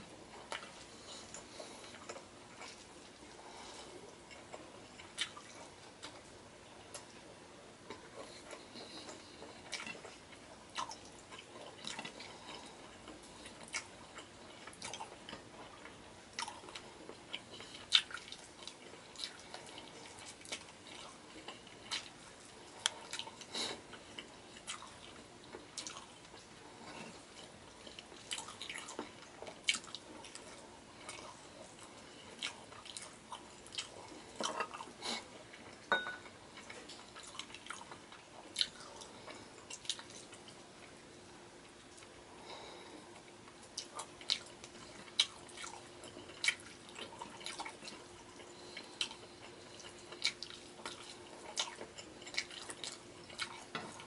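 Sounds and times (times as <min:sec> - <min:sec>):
person chewing wetly: 0:00.1 - 0:54.0.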